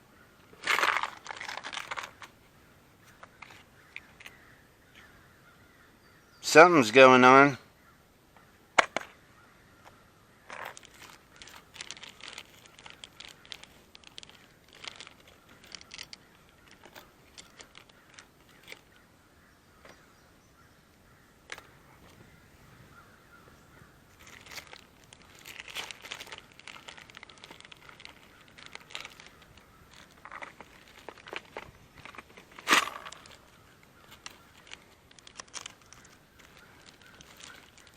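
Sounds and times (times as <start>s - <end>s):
crackling and rustling close by: 0.0s - 5.8s, 8.4s - 20.1s, 21.0s - 37.9s.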